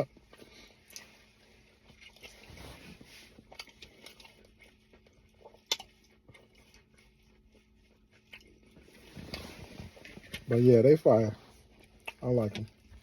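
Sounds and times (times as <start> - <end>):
person chewing: 0.0 - 10.5, 11.5 - 13.0.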